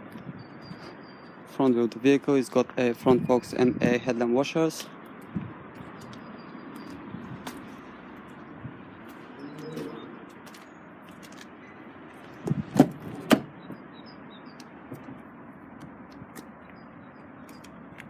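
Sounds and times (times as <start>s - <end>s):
faint birds chirping: 0.2s - 3.9s, 5.1s - 12.2s, 13.5s - 15.8s, 16.5s - 18.0s.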